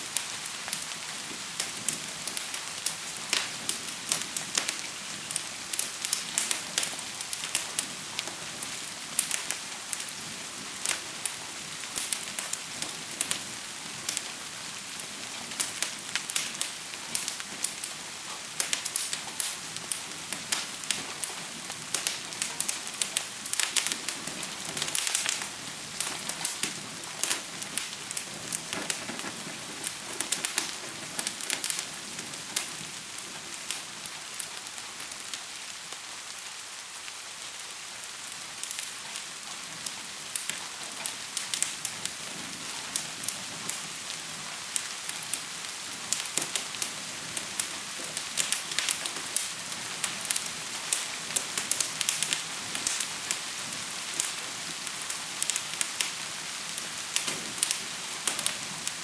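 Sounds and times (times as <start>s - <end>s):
gentle rain hiss: 0.0s - 59.0s
wood fire crackling: 0.0s - 59.0s.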